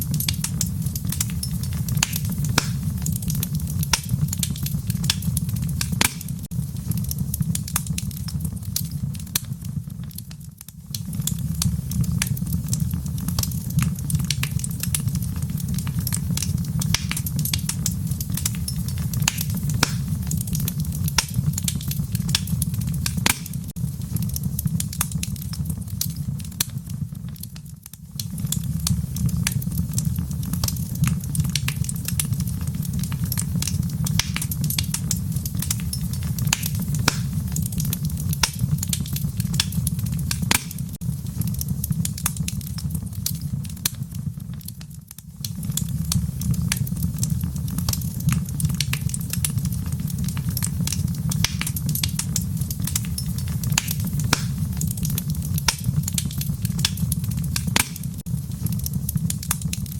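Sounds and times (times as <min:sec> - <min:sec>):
fire crackling and popping: 0:00.0 - 0:59.9
low rumble of flame: 0:00.0 - 0:59.9.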